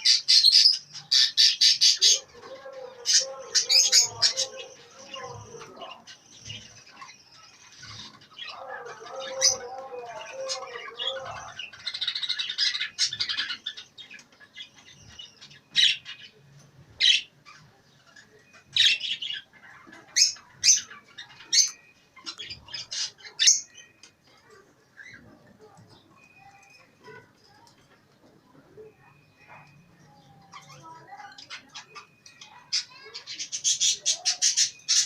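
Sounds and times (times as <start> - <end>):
birds chirping and calling: 0.0 - 35.0.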